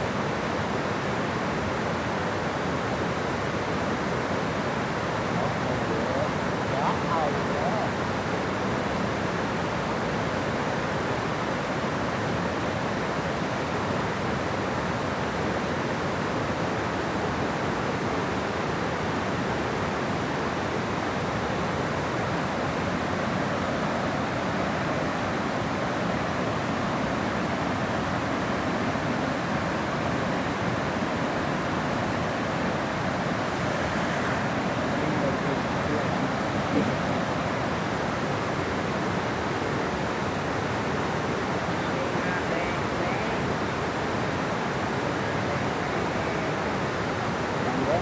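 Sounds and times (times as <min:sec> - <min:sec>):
water rushing at a dam: 0:00.0 - 0:48.0.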